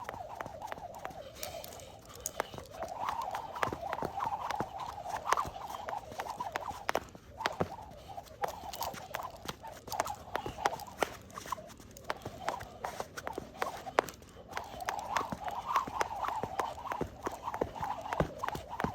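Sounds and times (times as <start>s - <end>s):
skipping rope slapping floor: 0.0s - 18.9s
spinning rope whirring: 0.0s - 18.9s.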